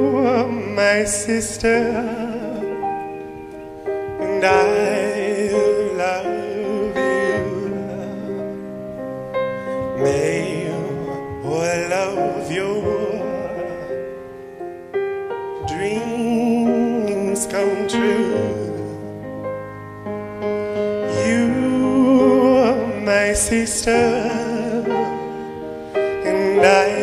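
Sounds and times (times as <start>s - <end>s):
person singing with vibrato: 0.0s - 19.8s, 20.6s - 27.0s
sustained piano chords: 0.0s - 27.0s.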